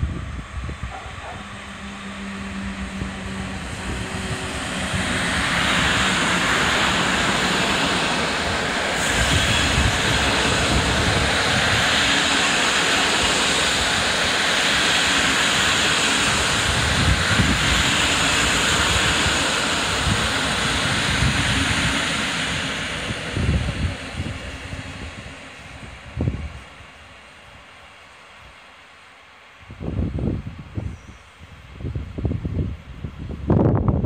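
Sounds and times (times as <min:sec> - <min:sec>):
train wheels rushing on rail: 0:00.0 - 0:34.0.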